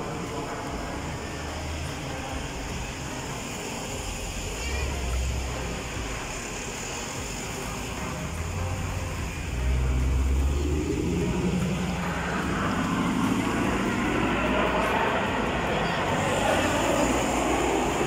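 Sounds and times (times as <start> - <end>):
jet engines flying over: 0.0 - 18.0.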